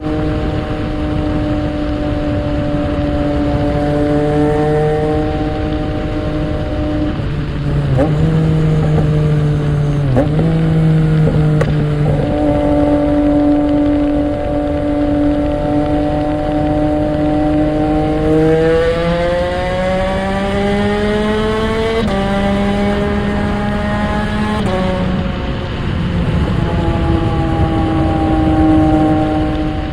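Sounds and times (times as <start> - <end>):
motorcycle engine in a tunnel: 0.0 - 29.9.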